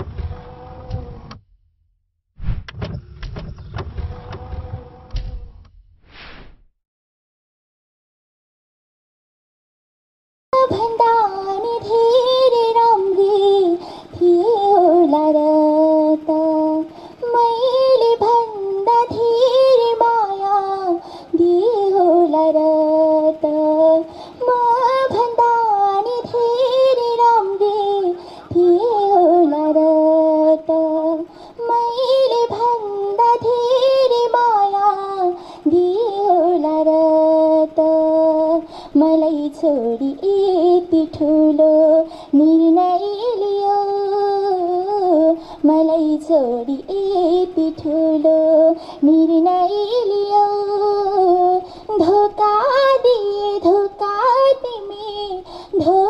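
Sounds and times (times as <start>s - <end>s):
woman singing into microphone: 10.6s - 56.0s.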